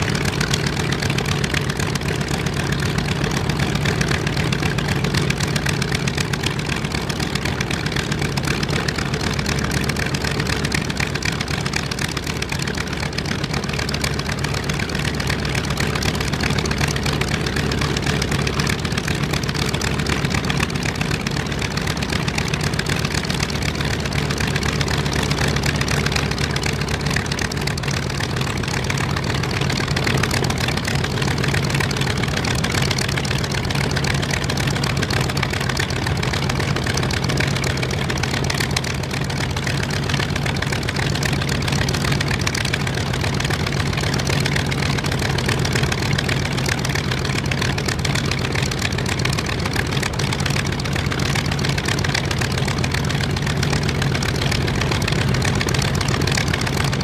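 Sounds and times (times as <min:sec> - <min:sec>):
piston engine idling: 0:00.0 - 0:57.0.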